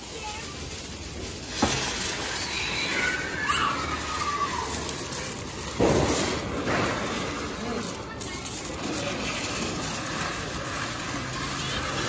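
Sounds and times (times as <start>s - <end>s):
ground fireworks hissing: 0.0s - 12.0s
loud burst of noise: 0.0s - 12.0s.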